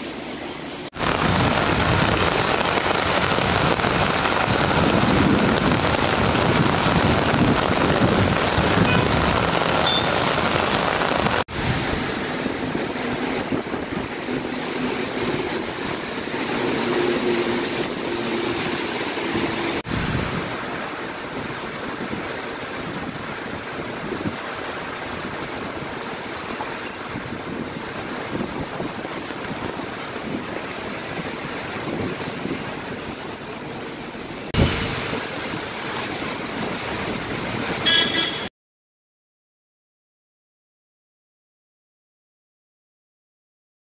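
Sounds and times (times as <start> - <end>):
heavy rain on road and roofs: 0.0 - 38.5.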